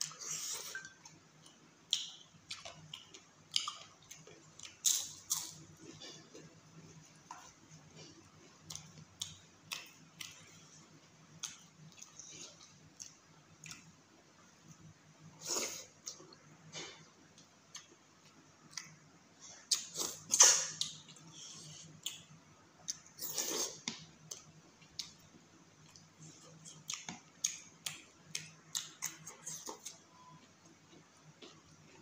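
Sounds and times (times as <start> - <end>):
person chewing wetly: 0.0 - 13.9, 19.7 - 32.0.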